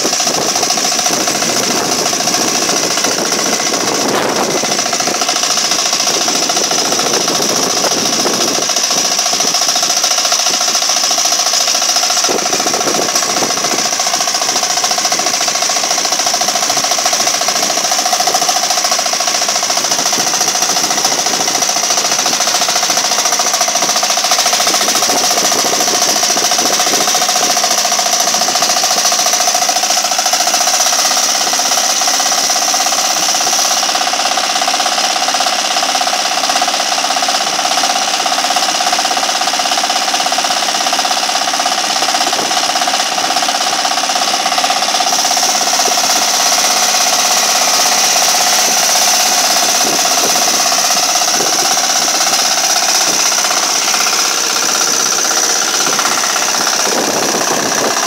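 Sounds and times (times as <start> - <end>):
small tractor engine rattling: 0.0 - 58.0.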